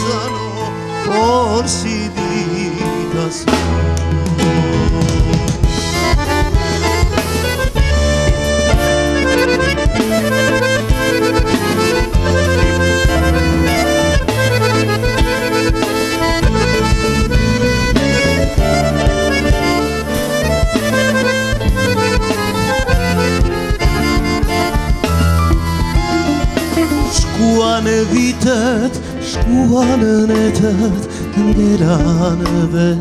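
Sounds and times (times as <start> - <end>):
drums keeping a steady beat: 0.0 - 33.0
electric guitar: 0.0 - 33.0
keyboards: 0.0 - 33.0.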